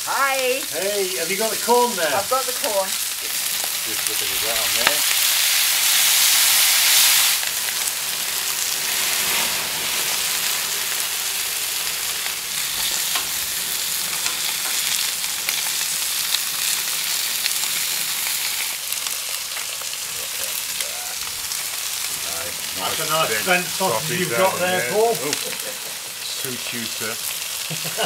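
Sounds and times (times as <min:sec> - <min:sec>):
food sizzling on grill: 0:00.0 - 0:28.0.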